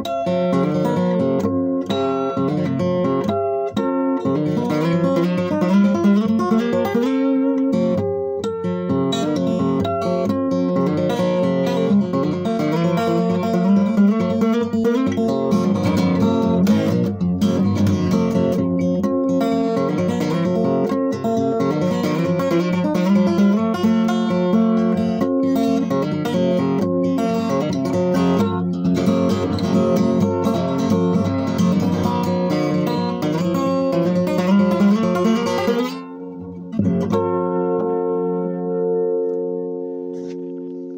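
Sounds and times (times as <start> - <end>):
fingerpicked acoustic guitar: 0.0 - 40.9.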